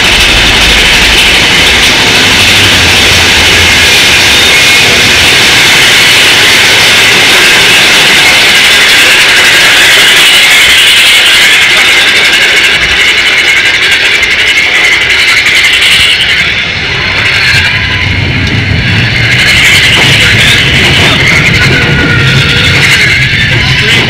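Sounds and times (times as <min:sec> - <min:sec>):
fast rattle of coaster train: 0:00.0 - 0:24.0
roller coaster rushing on track: 0:00.0 - 0:24.0.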